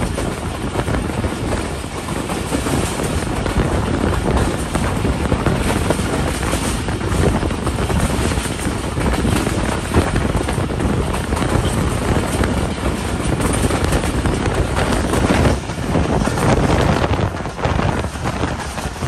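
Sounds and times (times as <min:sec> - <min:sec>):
train wheels on track: 0:00.0 - 0:19.0
wind buffeting microphone: 0:00.0 - 0:19.0.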